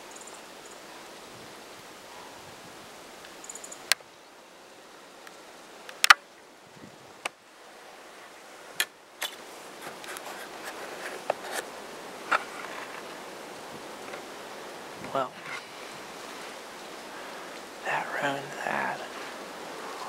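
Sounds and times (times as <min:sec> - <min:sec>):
rustling of clothing and leaves: 0:00.0 - 0:20.0.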